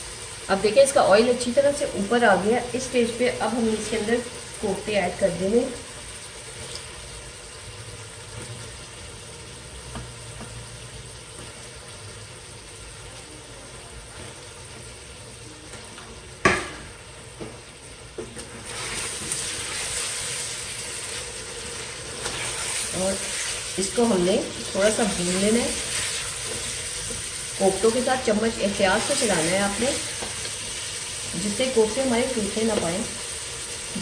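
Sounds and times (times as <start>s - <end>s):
food sizzling in a pot: 0.0s - 34.0s.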